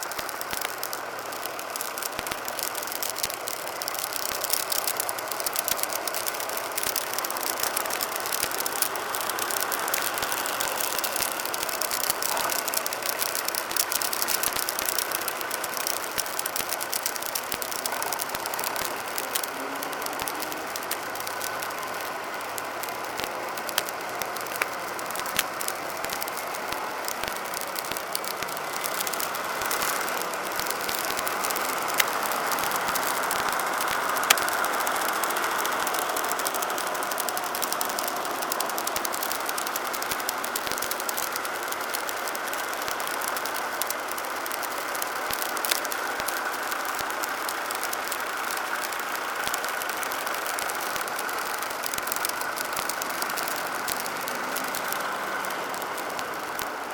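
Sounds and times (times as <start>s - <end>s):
sharp clicks: 0.0s - 56.9s
tractor engines running: 0.0s - 56.9s.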